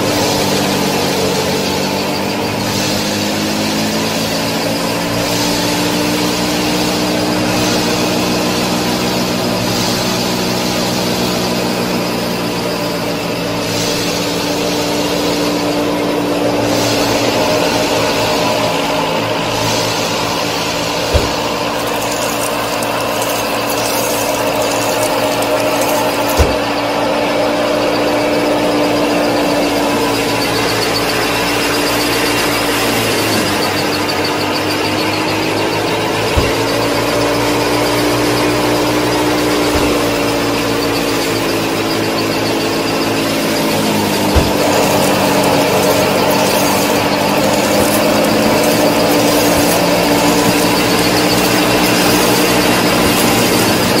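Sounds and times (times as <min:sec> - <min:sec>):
small motors whining: 0:00.0 - 0:54.0.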